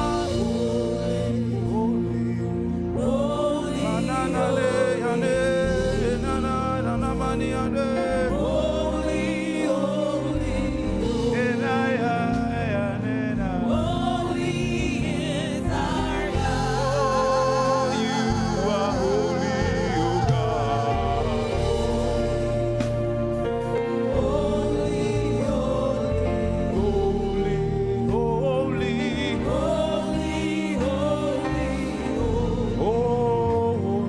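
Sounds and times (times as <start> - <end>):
gospel choir singing: 0.0 - 34.0
instrumental accompaniment: 0.0 - 34.0.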